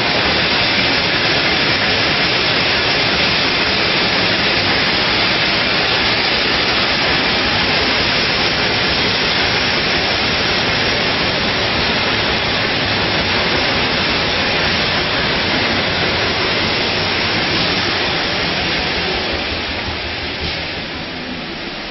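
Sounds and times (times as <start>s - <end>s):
bottling machine hiss and running: 0.0s - 20.8s.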